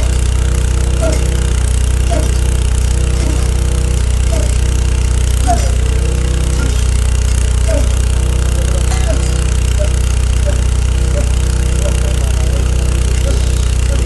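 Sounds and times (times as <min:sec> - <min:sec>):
drilling rig engine droning: 0:00.0 - 0:14.0.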